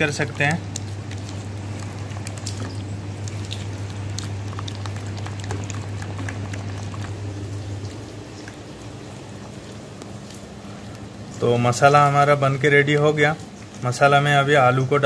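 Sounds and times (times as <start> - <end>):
hand squelching marinade: 0.0 - 14.0.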